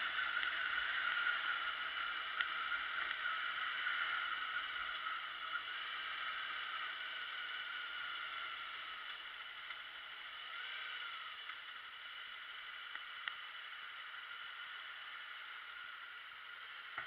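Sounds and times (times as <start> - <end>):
faint wavering whine: 0.0 - 17.0
wind and road hiss: 0.0 - 17.0.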